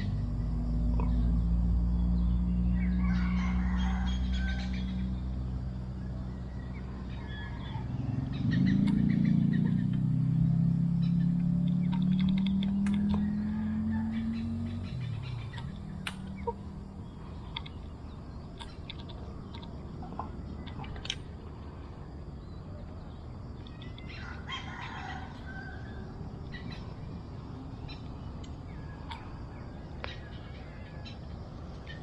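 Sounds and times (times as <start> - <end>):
bird calls and chirping: 0.0 - 32.0.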